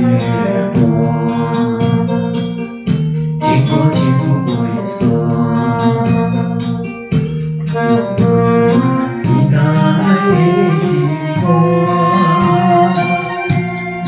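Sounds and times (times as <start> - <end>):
pop ballad with organ and keyboard: 0.0 - 14.0.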